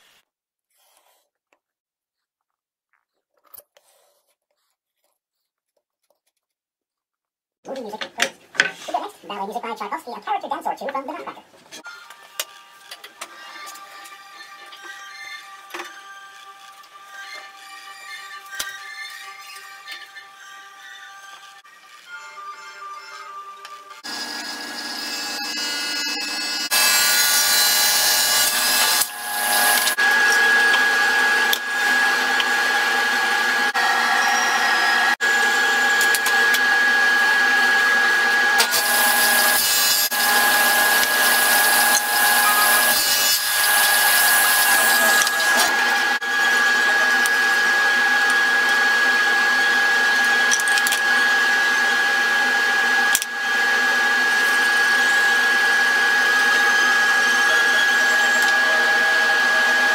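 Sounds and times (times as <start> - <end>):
table saw whining: 11.8 - 59.9.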